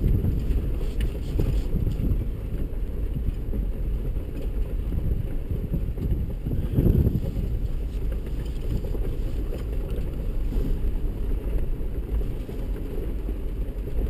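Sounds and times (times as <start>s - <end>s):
light clicks and rattles: 0.0s - 14.0s
vehicle rumbling over rocks: 0.0s - 14.0s.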